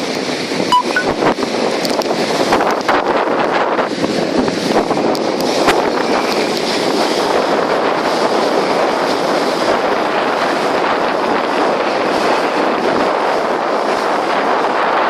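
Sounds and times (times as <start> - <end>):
boat underway: 0.0 - 15.0
wind buffeting microphone: 0.0 - 15.0.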